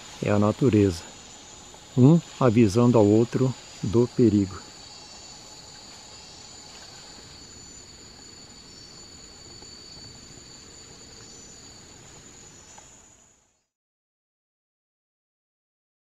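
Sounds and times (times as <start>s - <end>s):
insects trilling: 0.0s - 13.7s
low background hiss: 0.0s - 13.7s.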